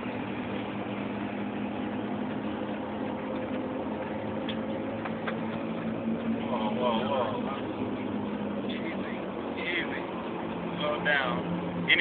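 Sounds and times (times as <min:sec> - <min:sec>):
road rumble inside vehicle: 0:00.0 - 0:12.0.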